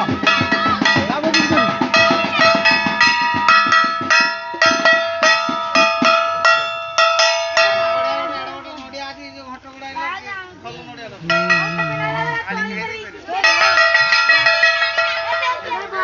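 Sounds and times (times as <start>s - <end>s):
metal bells struck rapidly: 0.0s - 9.4s, 11.2s - 16.0s
drum beats: 0.0s - 10.2s, 10.8s - 16.0s.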